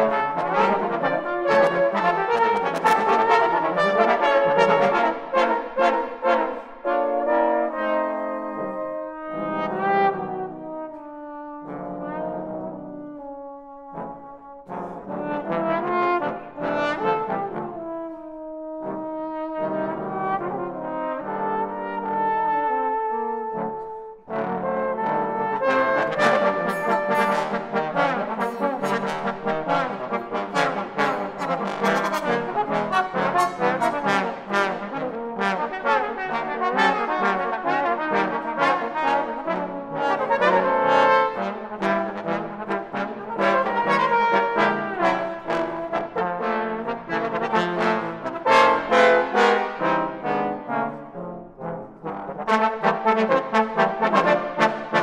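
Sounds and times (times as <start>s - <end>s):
trombone ensemble playing: 0.0s - 55.0s.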